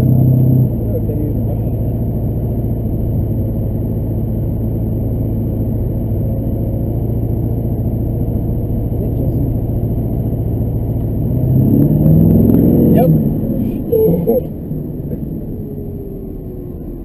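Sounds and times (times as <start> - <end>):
low engine drone: 0.0 - 17.0
road noise: 0.0 - 17.0.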